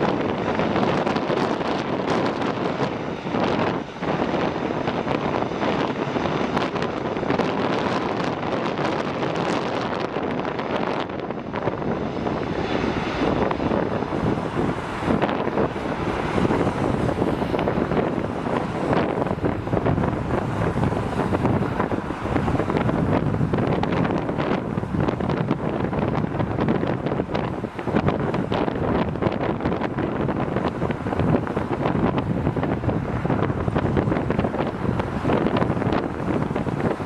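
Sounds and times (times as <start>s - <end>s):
jet engines of passing aircraft: 0.0s - 37.0s
wind buffeting microphone: 0.0s - 37.0s.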